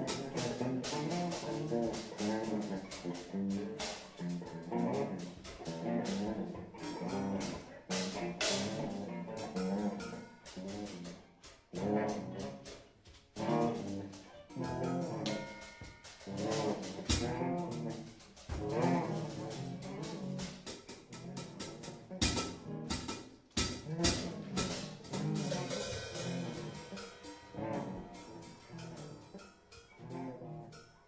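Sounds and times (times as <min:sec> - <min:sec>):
drum and cymbal strikes: 0:00.0 - 0:31.0
jazz guitar phrases: 0:00.0 - 0:31.0.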